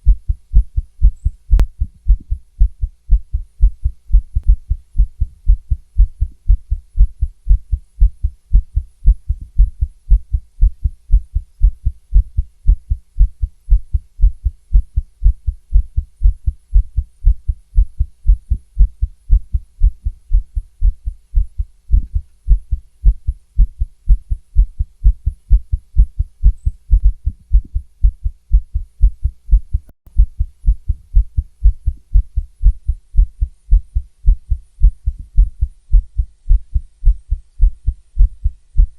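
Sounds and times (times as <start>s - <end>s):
fast heartbeat through stethoscope: 0.0s - 38.9s.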